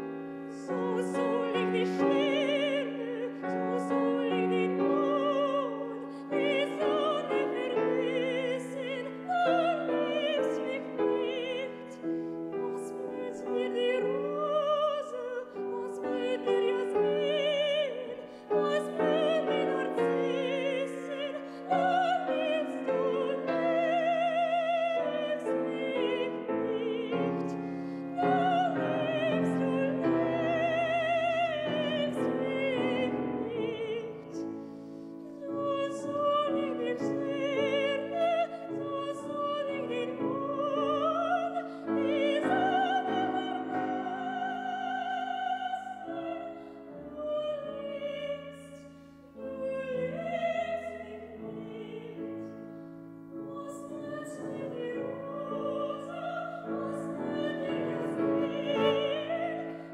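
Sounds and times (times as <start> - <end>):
grand piano: 0.0 - 59.9
woman singing with vibrato: 0.5 - 12.0, 12.6 - 34.4, 35.3 - 52.5, 53.4 - 59.9.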